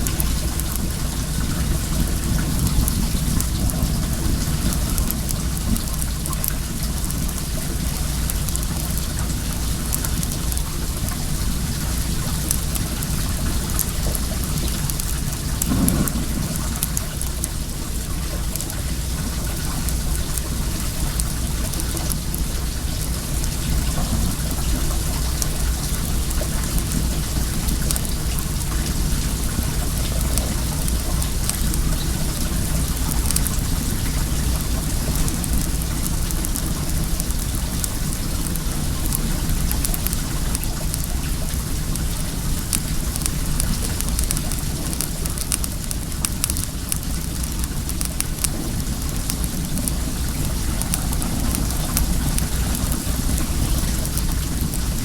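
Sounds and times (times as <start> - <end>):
bonfire crackling: 0.0 - 55.0
water running and splashing: 0.0 - 55.0.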